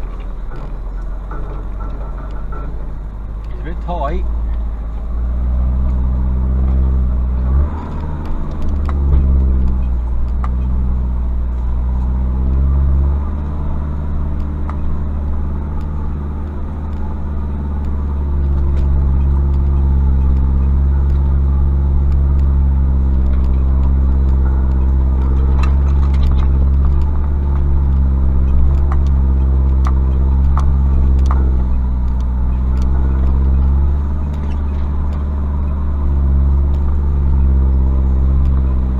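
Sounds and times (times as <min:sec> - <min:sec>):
diesel engine running at low revs: 0:00.0 - 0:38.9
sharp clicks and knocks: 0:00.0 - 0:38.9.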